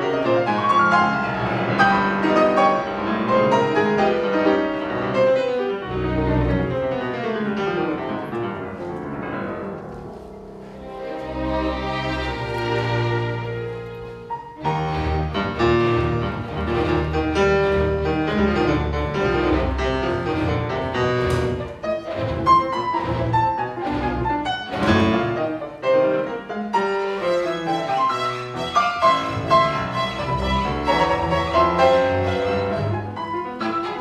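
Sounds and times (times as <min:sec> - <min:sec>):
bowed strings: 0:00.0 - 0:34.0
piano: 0:00.0 - 0:34.0.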